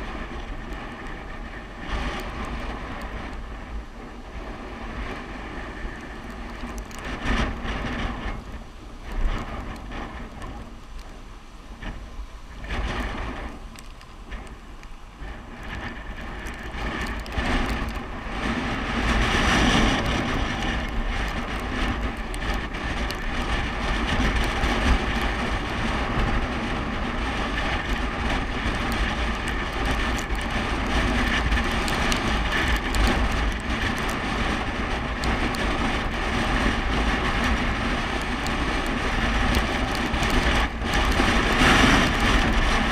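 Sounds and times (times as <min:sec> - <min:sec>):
wind rushing over microphone: 0:00.0 - 0:42.9.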